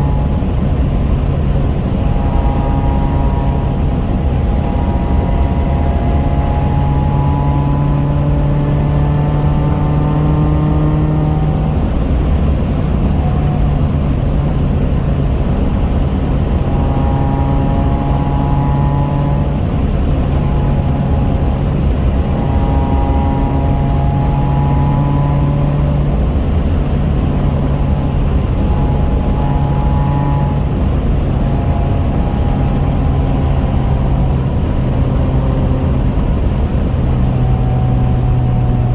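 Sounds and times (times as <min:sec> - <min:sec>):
car engine running: 0:00.0 - 0:38.9
road noise: 0:00.0 - 0:38.9.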